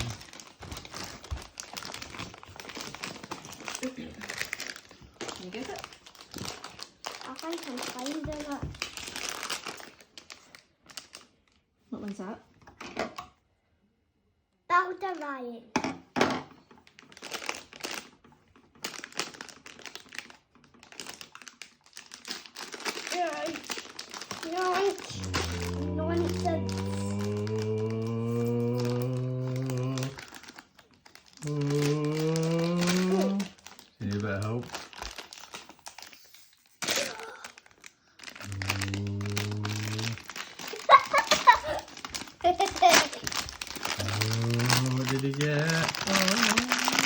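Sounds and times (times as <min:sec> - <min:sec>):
plastic packaging crinkling and tearing: 0:00.0 - 0:11.7, 0:16.6 - 0:47.0.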